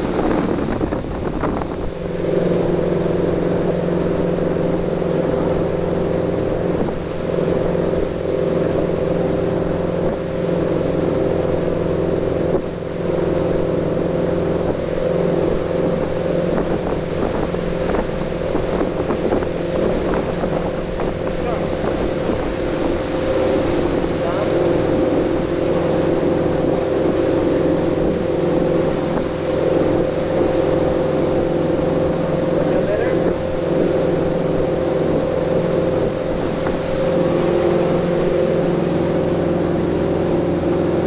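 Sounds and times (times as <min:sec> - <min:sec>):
boat engine running: 0:00.0 - 0:41.0
water rushing in wake: 0:00.0 - 0:41.0.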